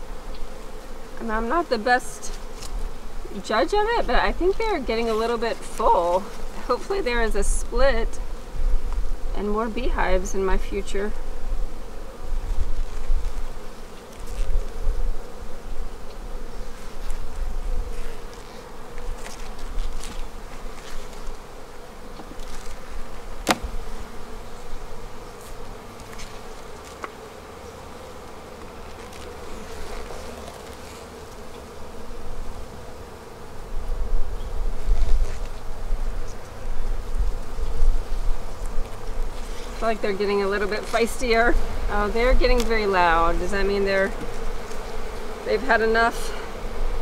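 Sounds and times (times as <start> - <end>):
honeybees buzzing: 0.0 - 47.0.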